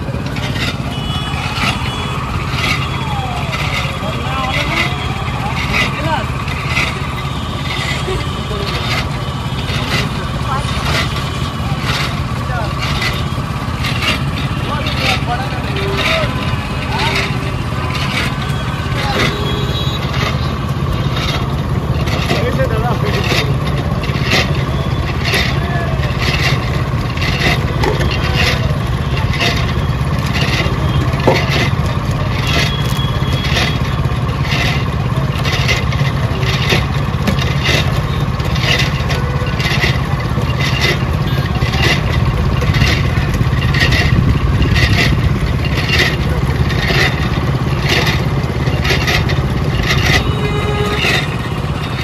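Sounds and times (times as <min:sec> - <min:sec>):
juice crusher clacking: 0:00.0 - 0:52.0
juice crusher humming: 0:00.0 - 0:52.0.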